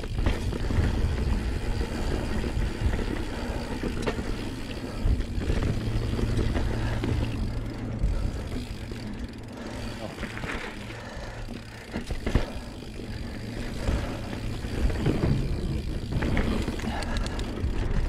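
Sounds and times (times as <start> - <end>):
bike rattling: 0.0 - 18.0
bike tyres rumbling on dirt: 0.0 - 18.0.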